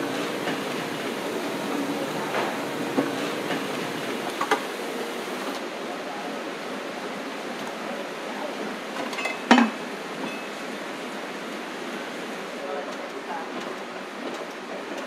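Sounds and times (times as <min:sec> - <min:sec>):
factory machinery hum: 0:00.0 - 0:15.0.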